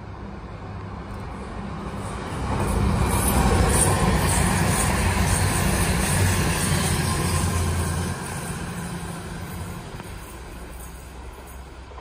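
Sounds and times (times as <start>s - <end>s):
train diesel engines humming: 0.0s - 12.0s
wheels rushing on rails: 0.0s - 12.0s.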